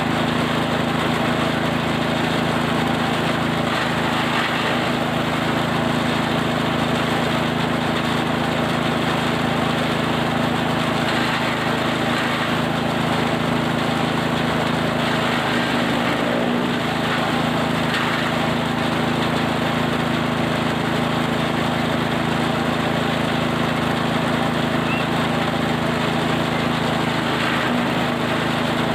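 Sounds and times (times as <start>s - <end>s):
forage chopper grinding feed: 0.0s - 28.9s.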